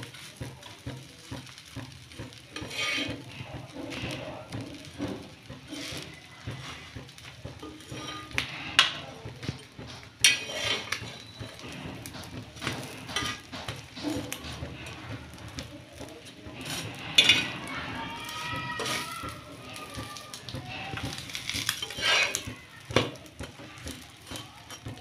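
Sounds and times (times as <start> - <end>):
metal spatula scraping a griddle: 0.0 - 25.0.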